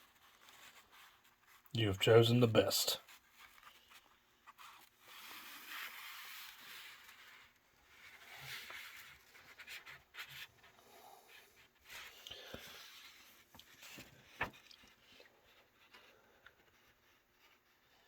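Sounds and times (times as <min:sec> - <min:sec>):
paper pages rustling: 0:00.0 - 0:10.8, 0:11.8 - 0:17.9.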